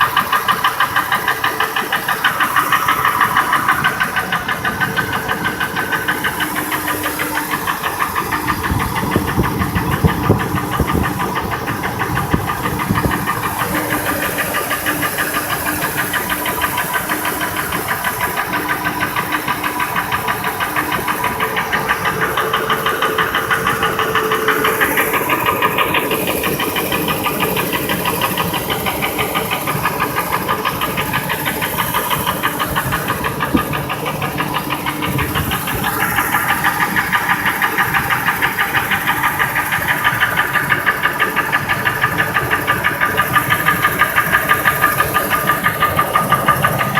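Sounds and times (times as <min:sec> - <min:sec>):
engine running with rhythmic knock: 0:00.0 - 0:46.9.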